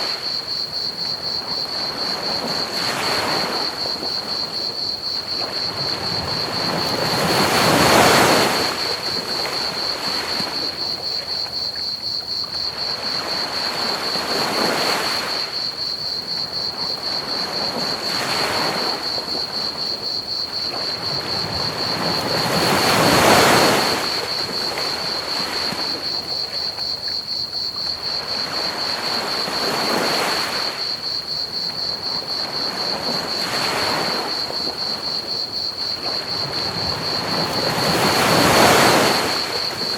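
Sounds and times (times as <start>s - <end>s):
crickets chirping: 0.0s - 39.9s
ocean waves washing onto beach: 0.0s - 39.9s.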